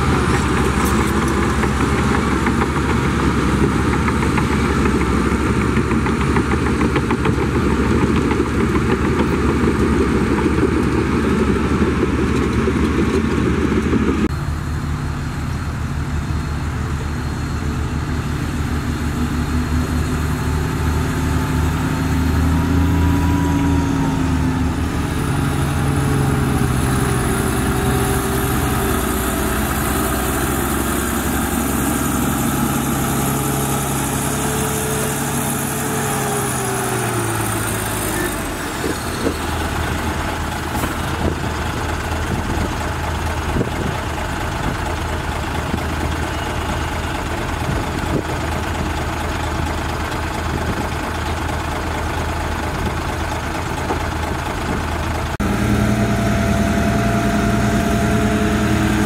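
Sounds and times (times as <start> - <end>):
heavy diesel engines: 0.0 - 59.0.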